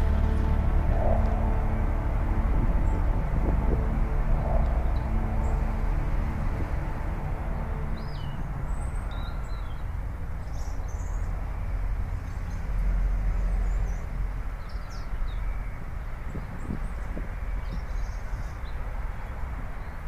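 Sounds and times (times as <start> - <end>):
low rumble: 0.0 - 19.5
birds chirping: 0.0 - 20.0.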